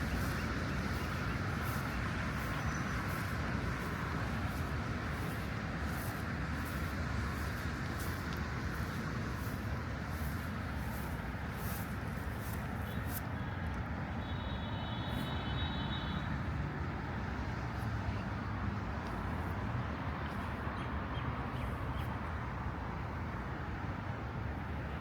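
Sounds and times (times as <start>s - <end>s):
city road traffic rumble: 0.0s - 25.0s.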